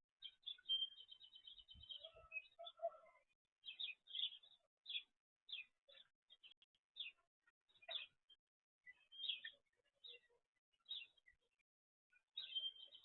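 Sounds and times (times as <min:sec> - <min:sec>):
small songbirds chirping: 0:00.1 - 0:13.0.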